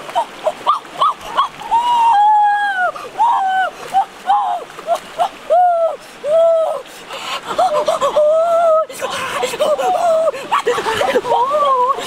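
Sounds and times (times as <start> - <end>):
boy crying out in wails: 0.2 - 6.8, 7.5 - 12.0.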